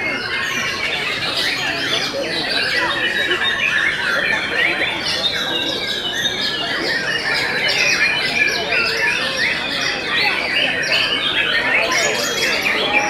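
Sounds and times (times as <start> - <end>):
birds singing chorus: 0.0 - 13.0.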